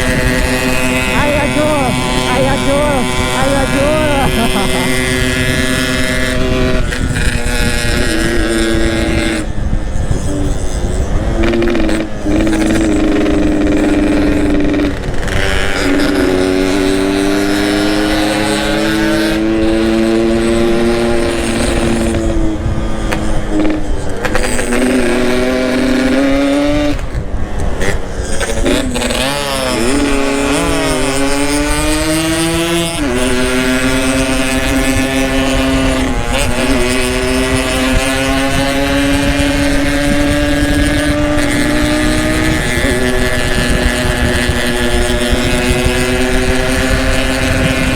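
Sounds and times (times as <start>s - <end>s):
two-stroke motorcycle engine: 0.0s - 47.9s.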